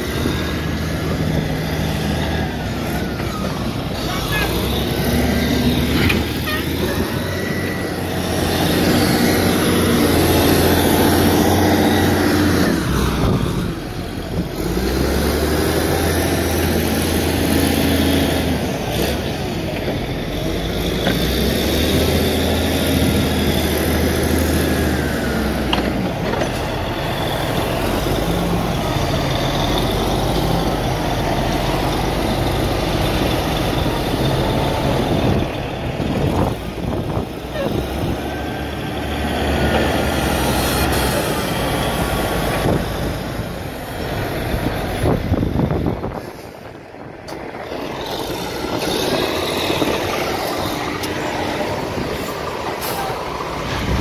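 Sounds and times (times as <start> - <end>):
loader diesel engine revving: 0.0 - 54.0.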